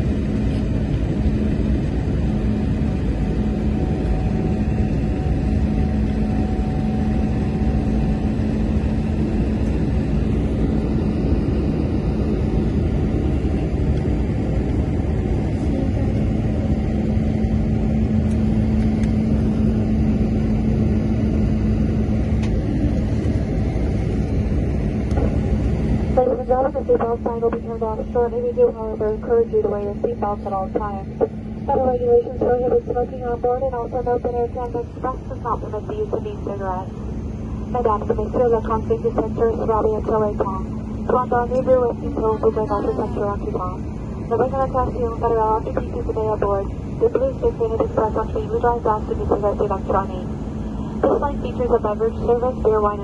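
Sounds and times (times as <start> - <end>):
airliner cabin rumble: 0.0 - 53.0
steady low hum: 0.0 - 53.0.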